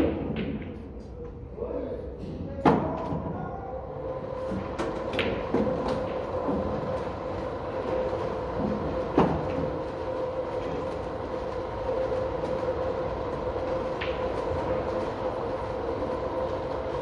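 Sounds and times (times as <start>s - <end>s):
mechanical hum with rumble: 0.0s - 17.0s.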